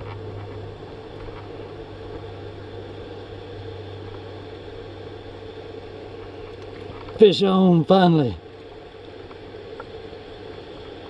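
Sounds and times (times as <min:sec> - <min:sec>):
constant low hum: 0:00.0 - 0:11.0.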